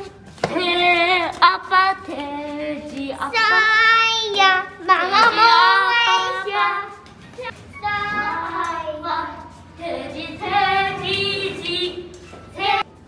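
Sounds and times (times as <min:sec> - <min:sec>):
young child singing: 0:00.0 - 0:13.0.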